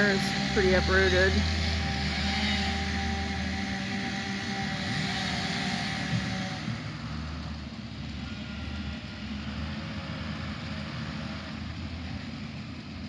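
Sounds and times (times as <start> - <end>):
engine idling: 0.0 - 13.0
outdoor noise: 0.0 - 13.0.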